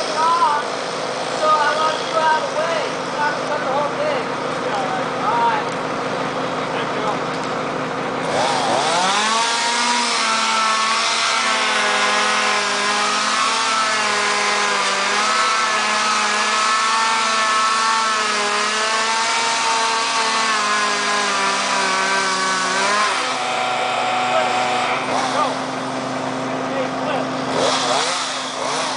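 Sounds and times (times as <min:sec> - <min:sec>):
chainsaw revving: 0:00.0 - 0:28.9.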